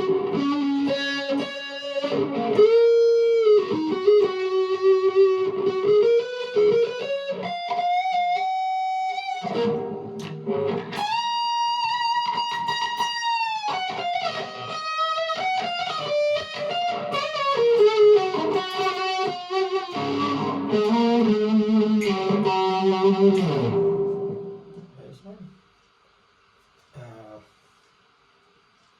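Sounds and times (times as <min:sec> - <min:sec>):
electric guitar lead line: 0:00.0 - 0:24.9.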